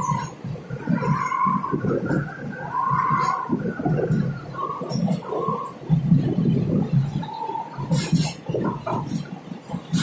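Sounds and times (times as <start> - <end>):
train wheels rattling on rails: 0.0 - 10.0.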